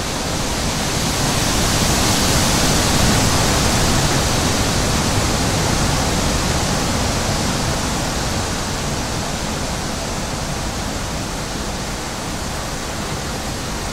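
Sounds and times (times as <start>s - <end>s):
high wind blowing: 0.0s - 13.9s.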